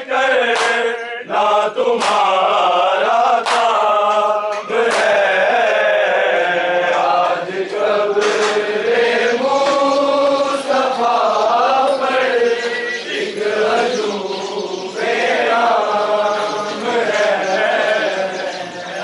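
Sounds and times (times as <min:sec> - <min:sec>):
crowd of men chanting: 0:00.0 - 0:19.0.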